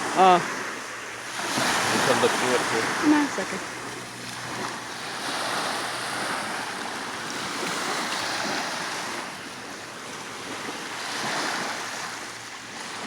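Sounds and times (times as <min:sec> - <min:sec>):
small waves washing onto beach: 0:00.0 - 0:13.0.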